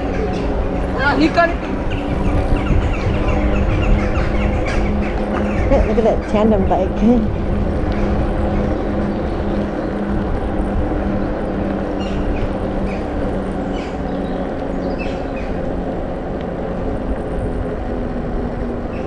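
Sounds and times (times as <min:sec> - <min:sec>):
bicycle tyre rumble: 0:00.0 - 0:19.0
steady low hum: 0:00.0 - 0:19.0
wind buffeting microphone: 0:00.0 - 0:19.0.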